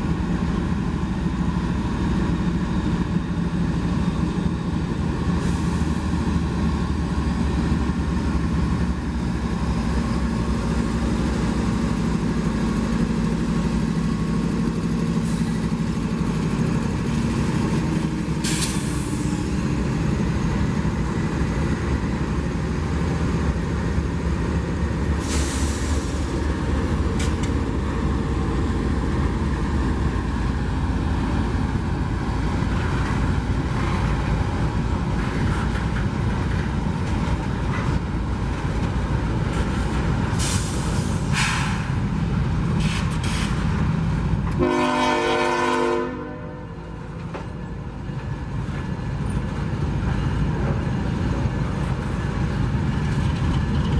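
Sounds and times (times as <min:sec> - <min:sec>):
diesel train rumbling past: 0:00.0 - 0:53.9.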